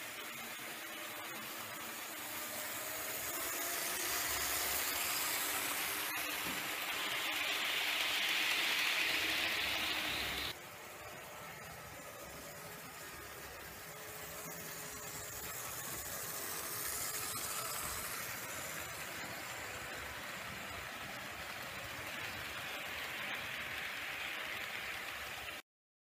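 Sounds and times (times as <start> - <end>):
model train wheels hissing on rails: 0.0 - 25.6.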